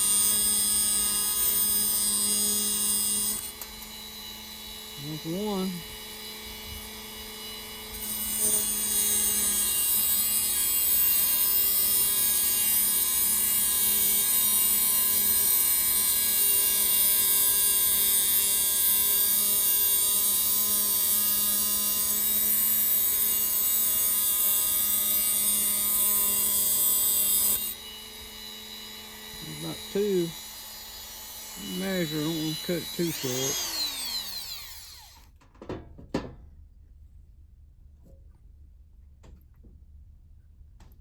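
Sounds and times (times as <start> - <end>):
power tool cutting wire: 0.0 - 35.4.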